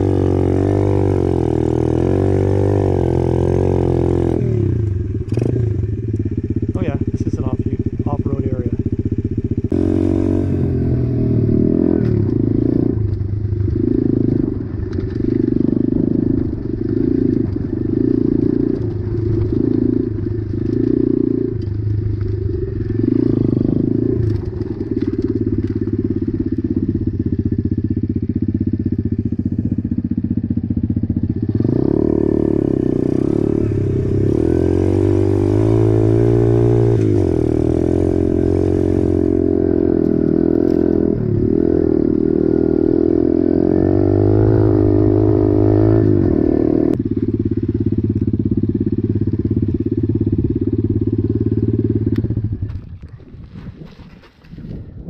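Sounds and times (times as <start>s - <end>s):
motorbike engine revving: 0.0s - 52.7s.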